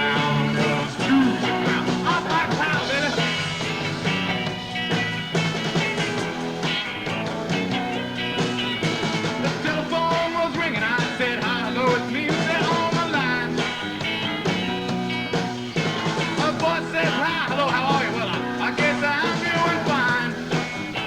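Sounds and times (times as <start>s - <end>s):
bending lead guitar line: 0.0s - 21.0s
live rock band playing: 0.0s - 21.0s.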